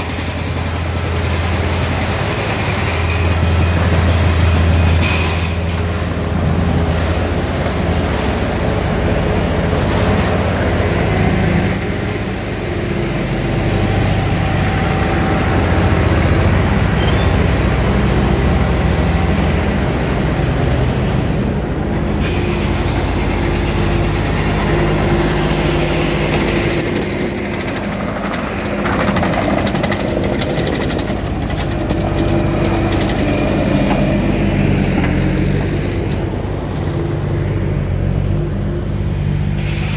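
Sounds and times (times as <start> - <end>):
vehicle engine running: 5.7 - 39.6.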